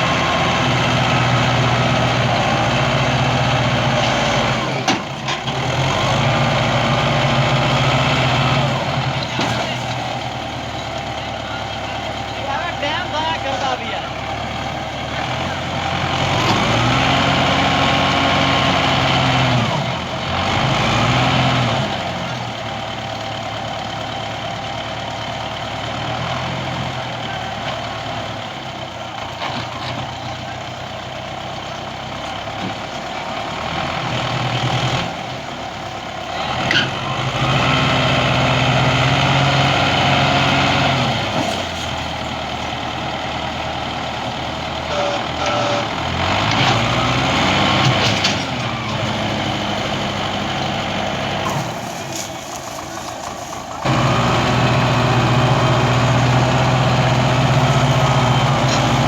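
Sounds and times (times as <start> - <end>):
diesel tractor engine revving: 0.0 - 59.0.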